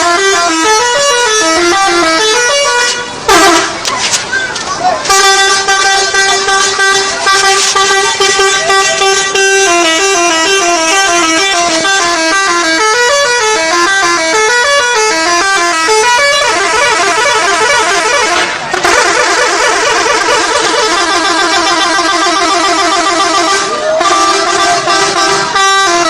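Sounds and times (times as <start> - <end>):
bus multi-tone horn tune: 0.0 - 3.9, 5.0 - 26.0.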